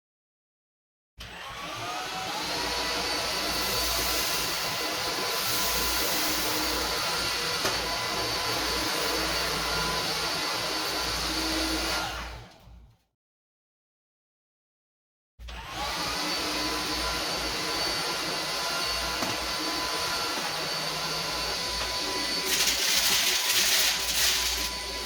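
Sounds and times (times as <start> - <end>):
stick vacuum motor whine: 1.2 - 12.5, 15.4 - 25.0.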